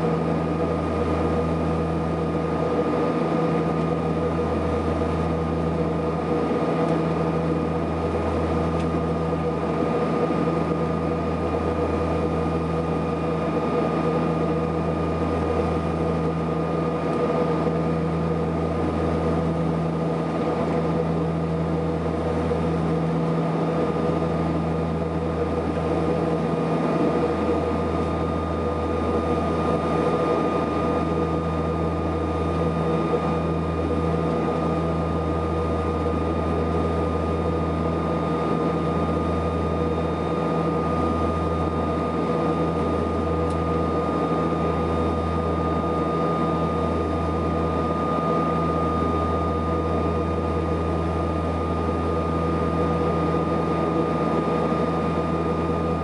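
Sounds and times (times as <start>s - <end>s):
high engine whine: 0.0s - 56.0s
turboprop engine drone: 0.0s - 56.0s.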